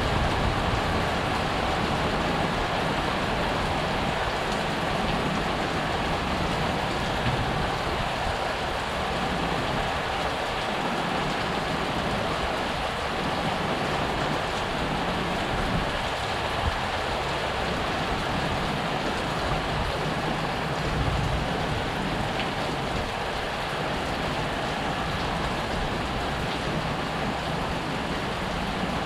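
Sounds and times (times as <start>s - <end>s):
heavy rain: 0.0s - 29.0s
running floodwater: 0.0s - 29.0s.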